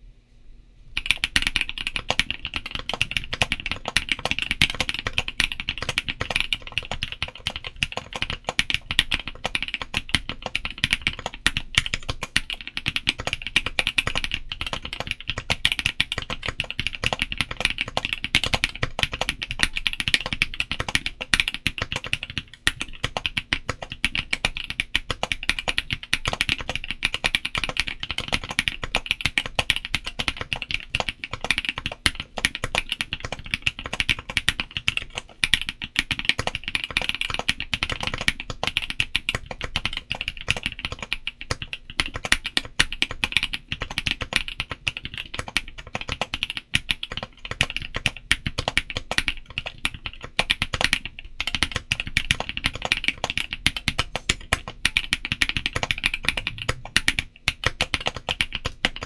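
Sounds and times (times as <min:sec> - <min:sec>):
fast mechanical keyboard typing: 0:01.0 - 0:59.0.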